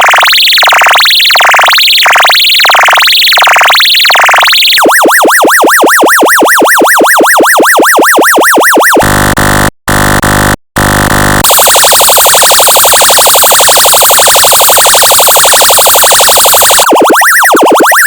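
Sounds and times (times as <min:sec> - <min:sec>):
electronic yelp siren: 0:00.0 - 0:18.0
rapid warbling siren tone: 0:00.0 - 0:18.0.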